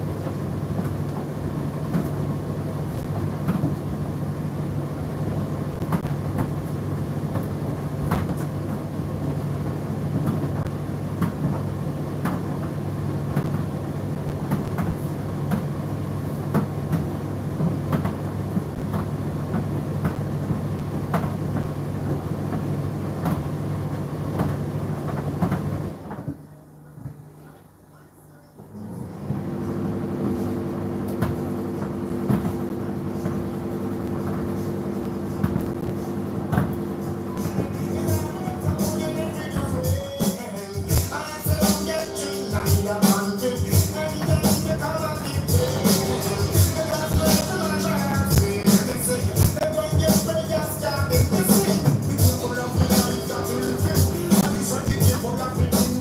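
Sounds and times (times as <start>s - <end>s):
tumble dryer motor hum: 0.0s - 56.0s.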